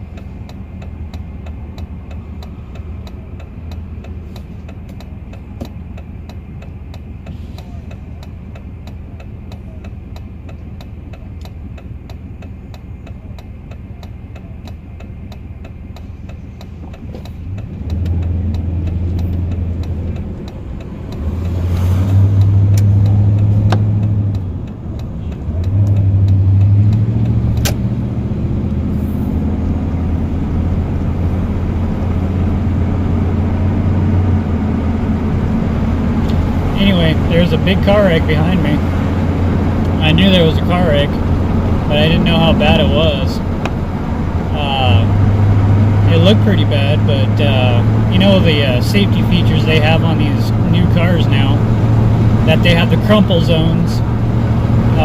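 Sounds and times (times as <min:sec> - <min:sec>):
car engine accelerating: 0:00.0 - 0:55.0
regular ticking: 0:00.0 - 0:55.0.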